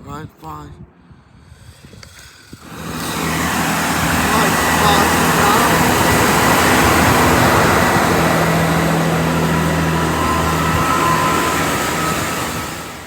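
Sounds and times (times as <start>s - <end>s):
diesel train engine hum: 2.0s - 13.0s
train whine: 2.0s - 13.0s.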